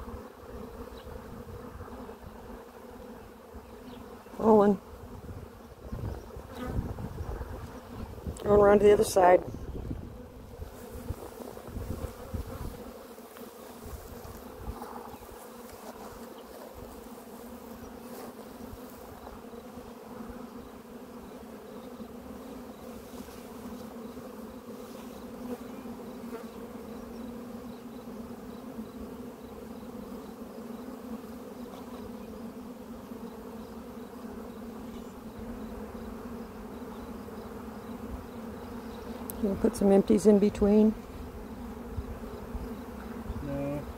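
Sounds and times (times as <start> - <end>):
honeybees buzzing: 0.0 - 43.9.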